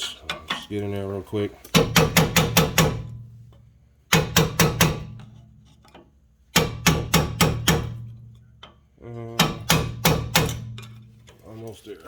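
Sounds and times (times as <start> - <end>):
sledgehammer beating on screwdriver: 1.7 - 11.4.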